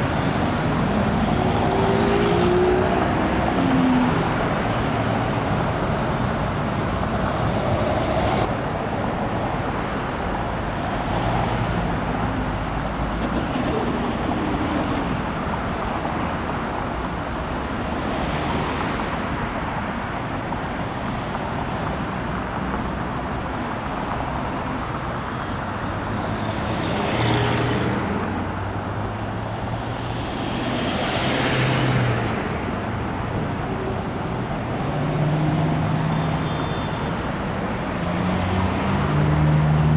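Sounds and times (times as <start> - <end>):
highway traffic rush: 0.0 - 39.9
loud vehicles passing: 0.0 - 39.9.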